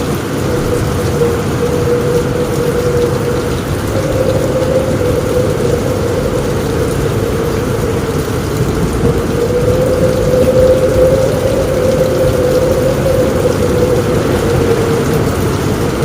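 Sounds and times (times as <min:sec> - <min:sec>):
steady hum-like tone: 0:00.0 - 0:15.7
rain drumming on a roof: 0:00.0 - 0:16.0.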